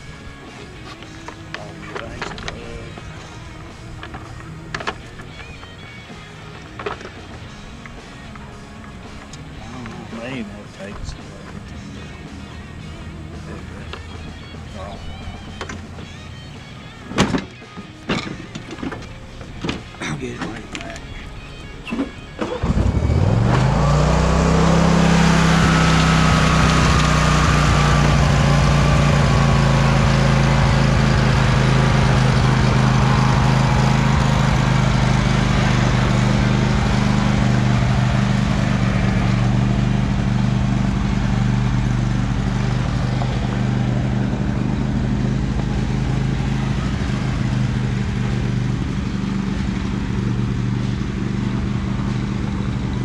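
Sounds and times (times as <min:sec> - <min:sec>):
riding lawn mower engine running: 0:00.0 - 0:53.0.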